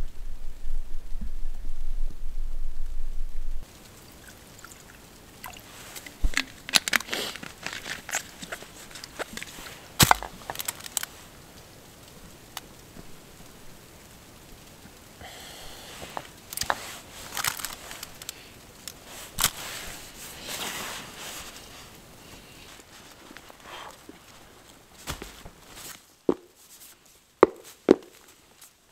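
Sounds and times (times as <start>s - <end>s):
crinkling rustles: 3.6s - 28.9s.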